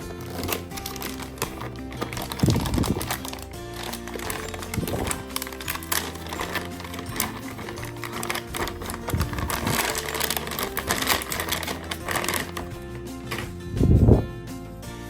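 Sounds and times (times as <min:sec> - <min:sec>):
rapid clicks and taps: 0:00.0 - 0:13.6
background music with bass: 0:00.0 - 0:15.0.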